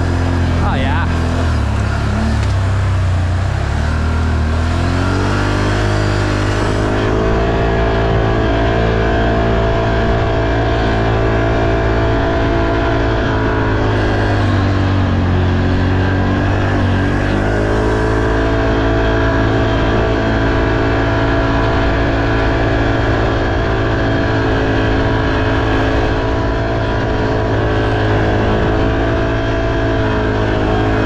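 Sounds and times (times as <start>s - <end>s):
atv engine running under load: 0.0s - 31.0s.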